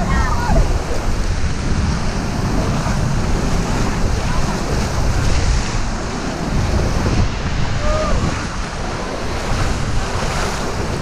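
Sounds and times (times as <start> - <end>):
whitewater rapids rushing: 0.0 - 11.0
wind buffeting microphone: 0.0 - 11.0.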